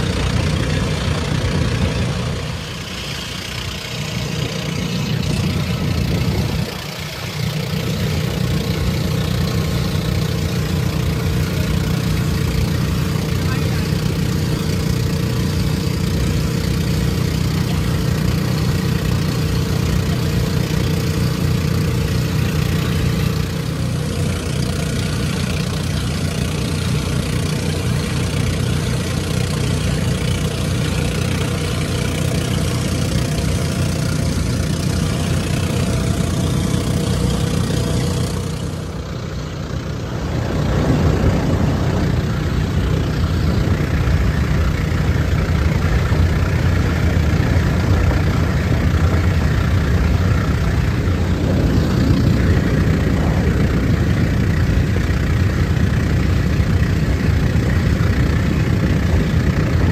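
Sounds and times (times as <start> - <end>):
boat engine droning: 0.0 - 59.9
water rushing: 0.0 - 59.9
wind: 0.0 - 59.9.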